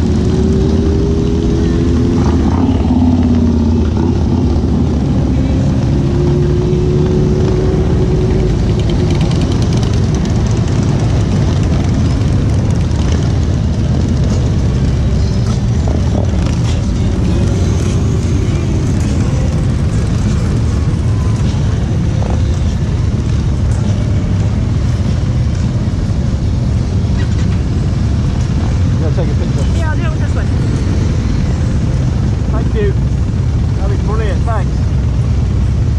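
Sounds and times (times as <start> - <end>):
motorcycle engines passing: 0.0 - 35.9.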